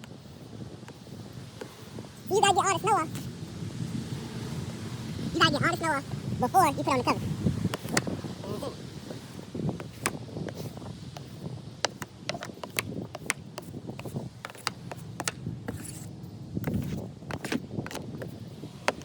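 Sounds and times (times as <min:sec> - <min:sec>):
low rustling of snow: 0:02.9 - 0:19.0.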